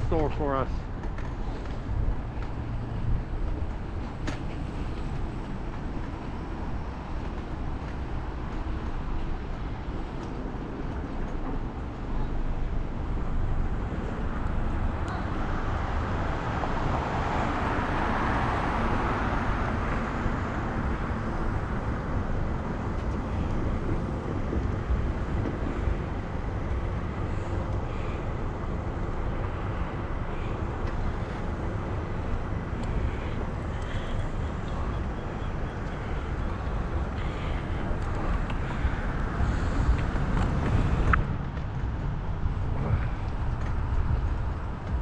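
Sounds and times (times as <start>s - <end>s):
cars passing: 0.0s - 45.0s
wind rushing over microphone: 0.0s - 45.0s.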